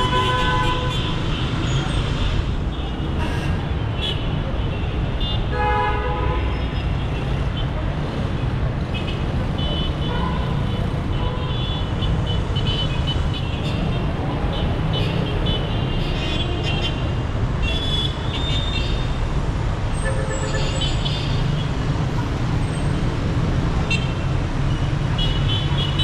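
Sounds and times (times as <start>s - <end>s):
traffic engines rumbling: 0.0s - 26.0s.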